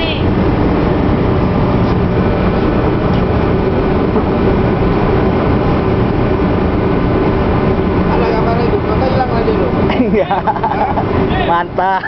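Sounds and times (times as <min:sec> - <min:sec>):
engine machinery rumble: 0:00.0 - 0:12.0.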